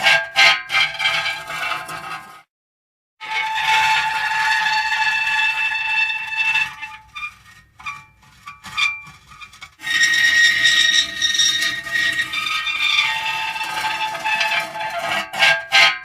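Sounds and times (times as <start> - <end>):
metal creaking and squealing: 0.0 - 2.4, 3.2 - 16.0.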